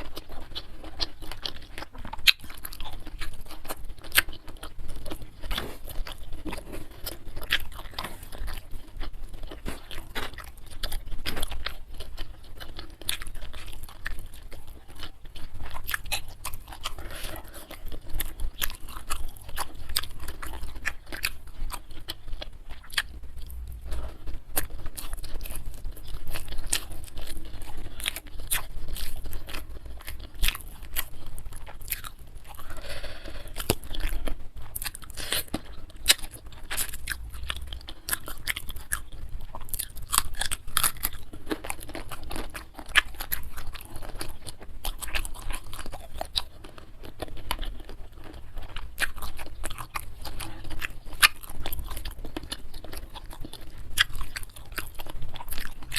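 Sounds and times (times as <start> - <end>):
crunchy chewing of food: 0.0 - 55.9.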